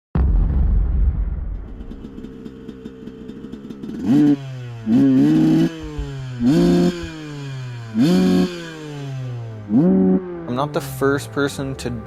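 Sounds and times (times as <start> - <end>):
dirt bike engine revving: 1.8 - 11.6.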